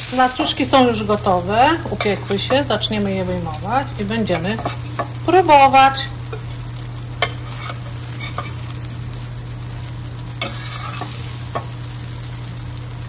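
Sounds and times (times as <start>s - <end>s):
low hum: 0.0s - 13.0s
oil sizzling in frying pan: 0.0s - 13.0s.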